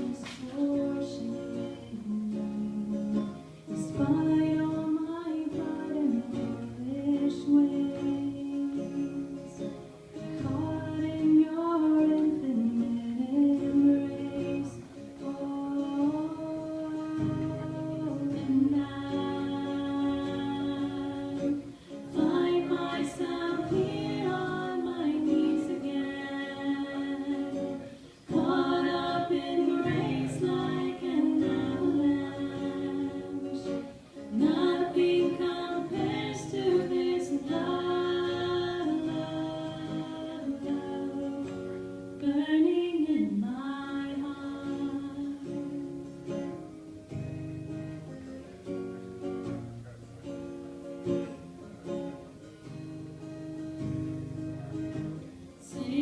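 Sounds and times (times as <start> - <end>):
woman singing worship song: 0.0 - 9.6, 10.4 - 46.4, 55.6 - 56.0
guitar: 0.0 - 56.0.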